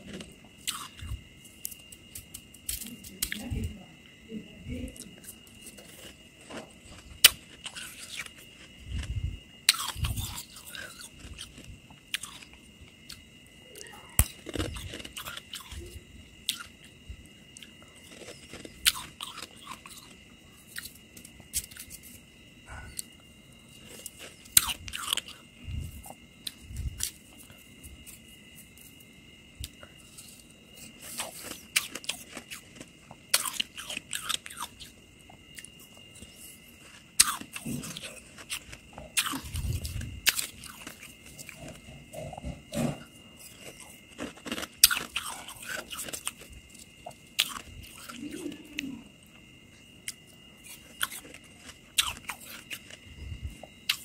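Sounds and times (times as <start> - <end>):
crunching freezer frost: 5.0 - 13.2, 13.8 - 22.2, 22.9 - 25.4, 26.4 - 41.9, 42.5 - 48.9, 50.0 - 53.1
quiet chewing: 5.0 - 16.9, 17.5 - 22.2, 22.8 - 29.0, 29.6 - 54.0.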